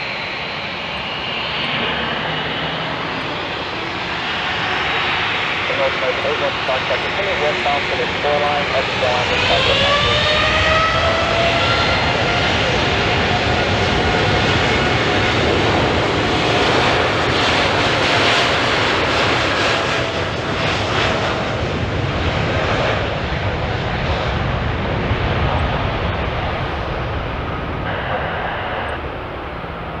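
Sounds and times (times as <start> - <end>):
jet engine whine and rumble: 0.0 - 30.0.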